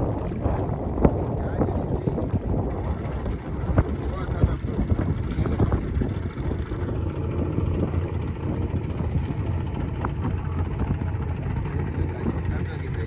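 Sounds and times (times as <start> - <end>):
motorboat engine rumbling: 0.0 - 13.0.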